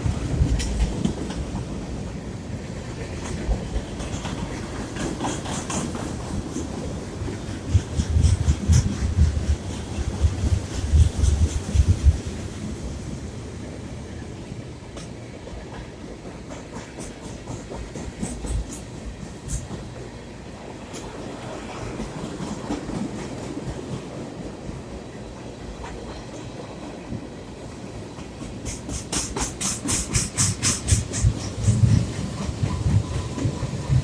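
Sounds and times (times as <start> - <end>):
freight train rumbling: 0.0 - 34.0
train wheels clacking on rails: 0.0 - 34.0.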